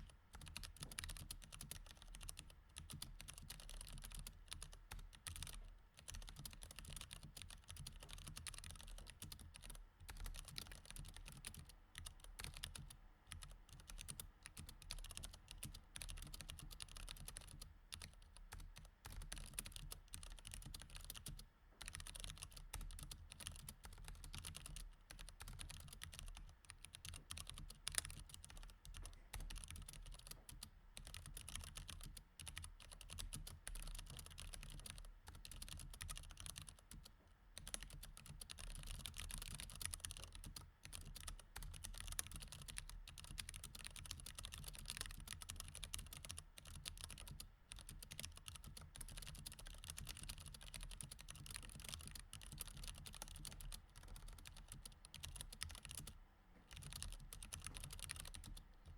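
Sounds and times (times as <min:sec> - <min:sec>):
typing on mechanical keyboard: 0:00.4 - 0:58.9.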